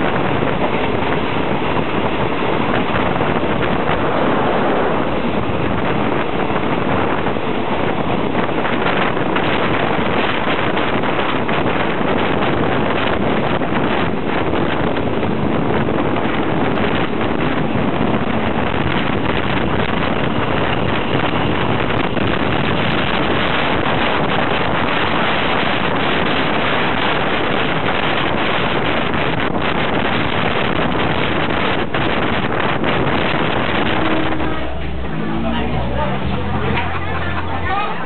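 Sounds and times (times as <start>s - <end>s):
passing diesel trains: 0.0s - 38.0s
train running noise: 0.0s - 38.0s
wind buffeting microphone: 0.0s - 38.0s.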